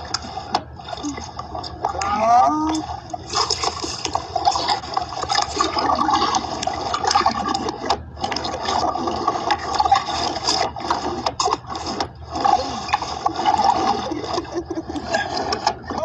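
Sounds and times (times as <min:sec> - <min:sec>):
water splashing around boat: 0:00.0 - 0:16.0.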